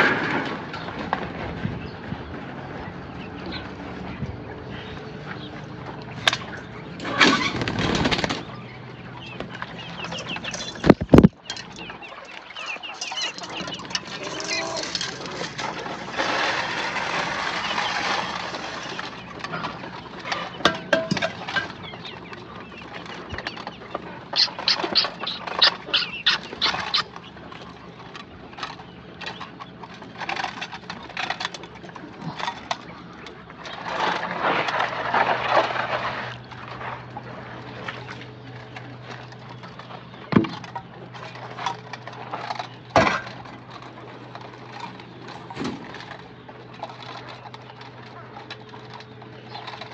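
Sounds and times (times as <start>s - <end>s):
chickens pecking taps and clicks: 3.2s - 49.9s.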